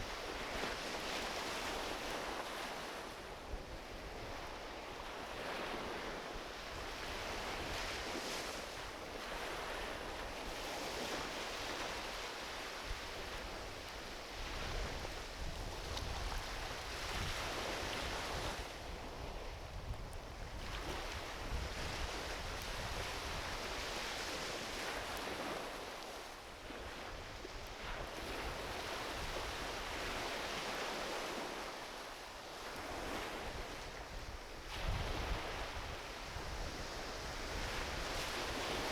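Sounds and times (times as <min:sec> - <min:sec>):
small waves washing on beach: 0:00.0 - 0:38.9.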